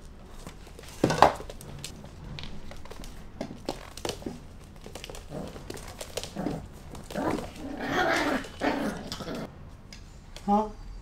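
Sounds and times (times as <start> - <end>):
puppy claws on wooden floor: 0.0 - 9.5.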